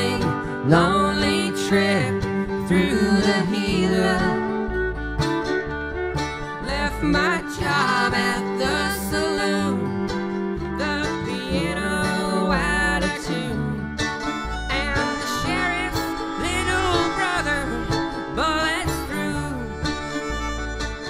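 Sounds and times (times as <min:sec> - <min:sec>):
bass line: 0:00.0 - 0:21.0
live country band: 0:00.0 - 0:21.0
plucked guitar: 0:00.0 - 0:21.0.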